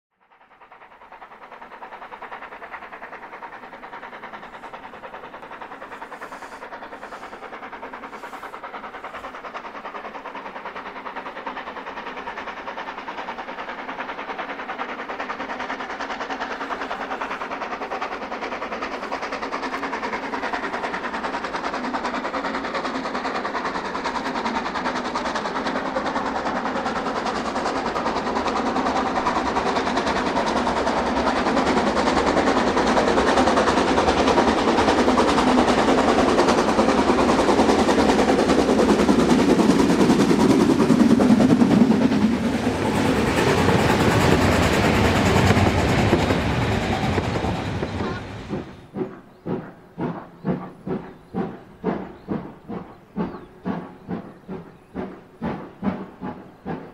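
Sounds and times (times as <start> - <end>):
train clattering: 0.3 - 56.9.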